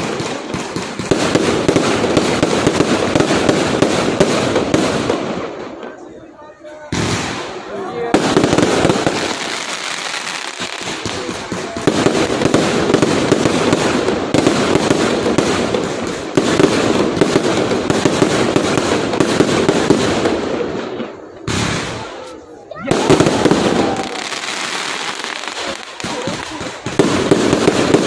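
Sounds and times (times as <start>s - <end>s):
fireworks popping and crackling: 0.0s - 6.2s, 6.8s - 28.0s.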